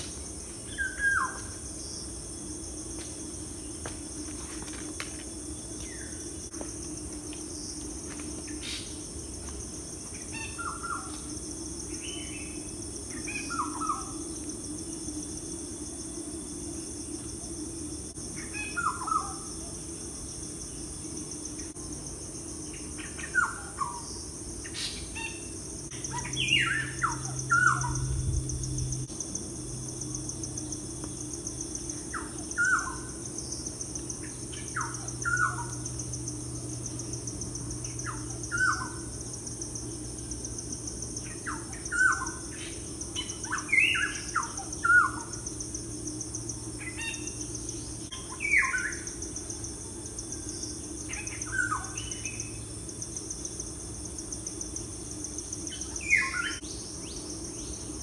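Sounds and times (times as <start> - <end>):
high insect buzz: 0.0 - 58.0.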